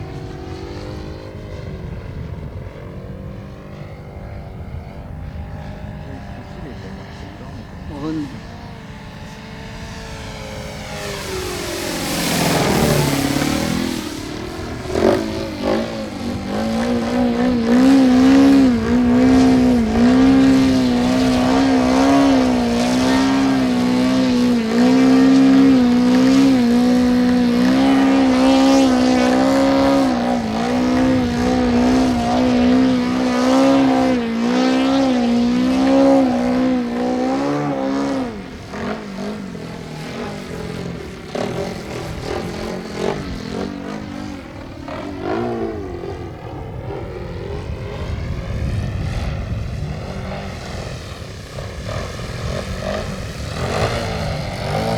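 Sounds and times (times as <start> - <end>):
model airplane engine buzzing: 0.0 - 54.9.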